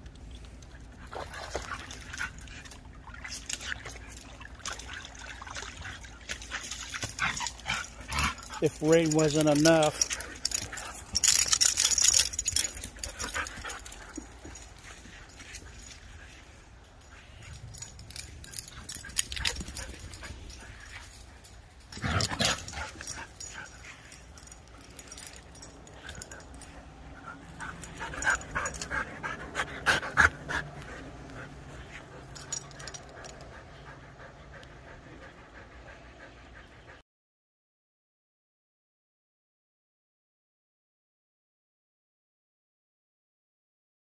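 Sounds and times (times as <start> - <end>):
dogs panting: 0.4 - 37.0.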